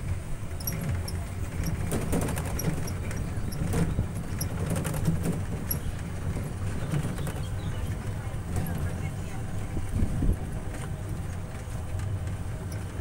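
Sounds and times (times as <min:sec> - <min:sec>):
cart body rattles and clicks: 0:00.0 - 0:13.0
cart rumbling over bricks: 0:00.0 - 0:13.0.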